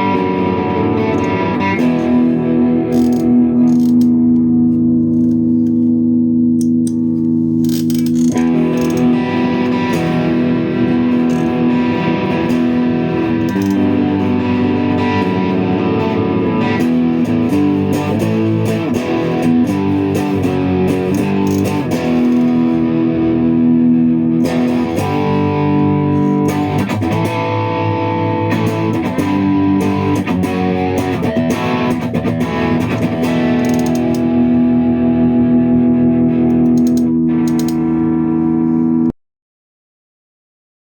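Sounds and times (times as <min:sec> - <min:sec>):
electric guitar chords and lines: 0:00.0 - 0:39.1.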